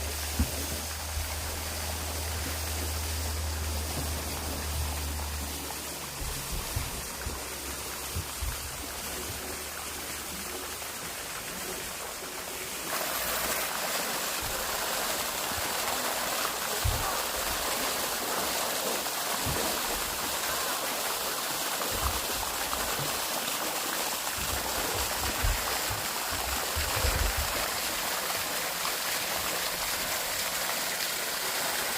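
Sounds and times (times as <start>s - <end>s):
stream water rushing: 0.0s - 31.9s.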